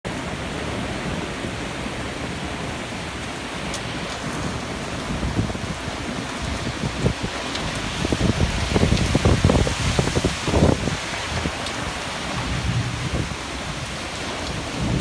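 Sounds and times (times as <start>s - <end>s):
heavy rain: 0.1s - 15.0s.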